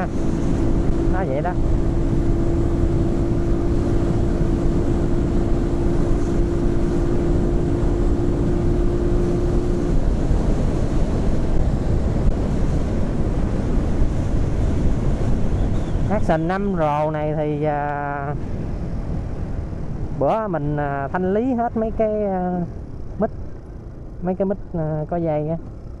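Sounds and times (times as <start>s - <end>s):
steady hum: 0.0s - 26.0s
wind buffeting microphone: 0.0s - 26.0s.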